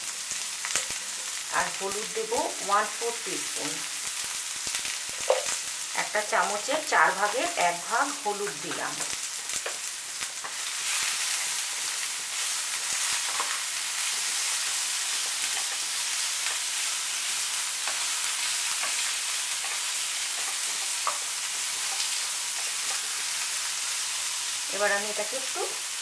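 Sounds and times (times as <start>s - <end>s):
fruit sizzling in hot oil: 0.0s - 26.0s.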